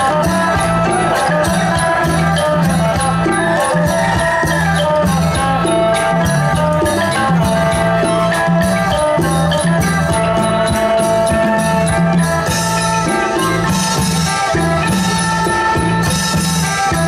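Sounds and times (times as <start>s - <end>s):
folk ensemble playing: 0.0s - 17.0s
steady drum beat: 0.0s - 17.0s.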